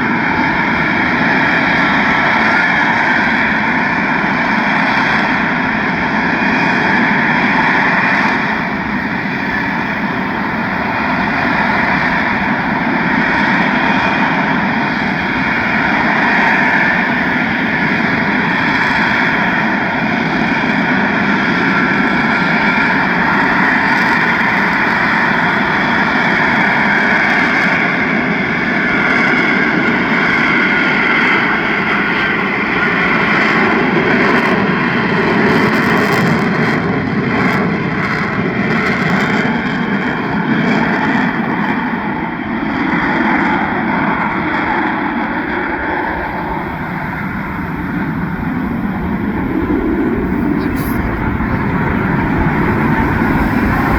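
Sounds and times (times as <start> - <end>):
jet engine roaring: 0.0 - 53.9.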